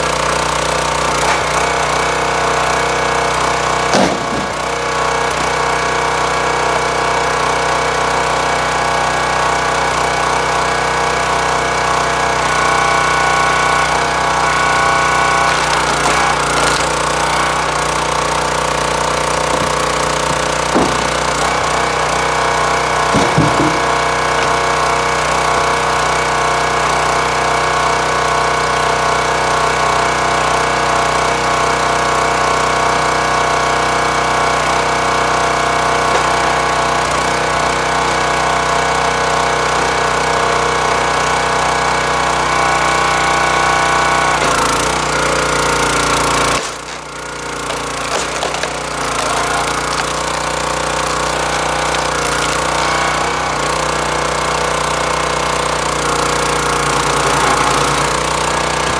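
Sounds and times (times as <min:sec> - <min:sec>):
log splitter engine running: 0:00.0 - 0:58.9.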